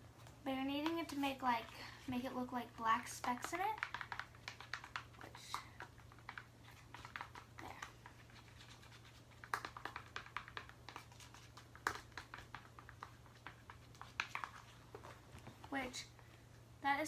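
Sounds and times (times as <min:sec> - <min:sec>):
stick stirring glue in a bowl: 0:00.4 - 0:16.2.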